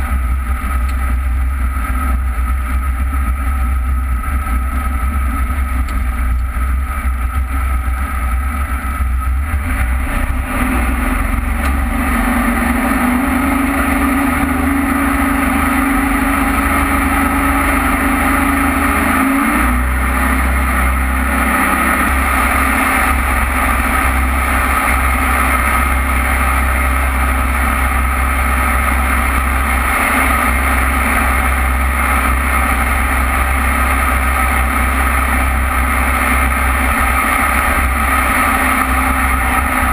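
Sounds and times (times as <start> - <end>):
jet boat engine running: 0.0 - 39.9.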